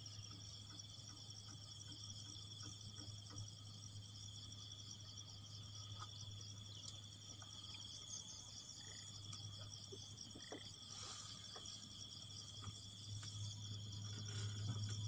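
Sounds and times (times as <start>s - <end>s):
insect chorus trilling: 0.1s - 15.0s.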